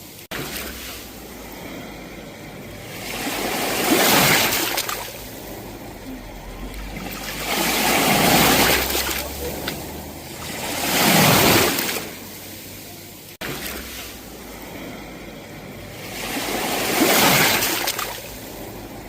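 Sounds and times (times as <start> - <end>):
low rumble of sea: 0.0 - 19.0
surf rushing ashore: 0.0 - 19.0.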